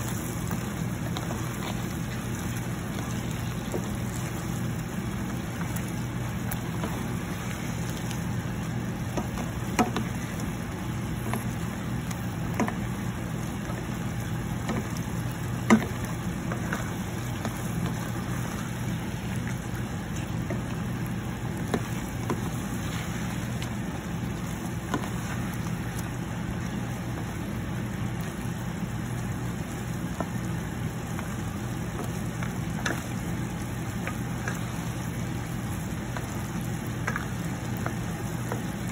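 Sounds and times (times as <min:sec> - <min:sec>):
shrimp sizzling in a frying pan: 0:00.0 - 0:38.9
steady low hum: 0:00.0 - 0:38.9.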